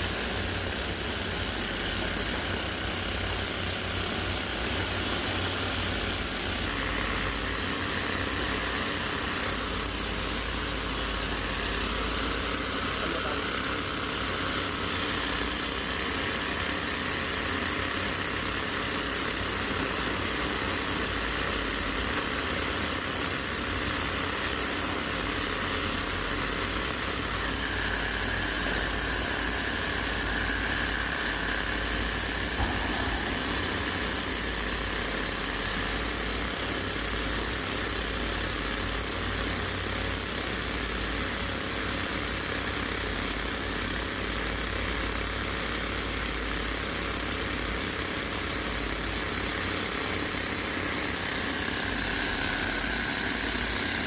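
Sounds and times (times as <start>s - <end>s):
excavator diesel engine running: 0.0s - 54.0s
high mechanical whine: 0.0s - 54.0s.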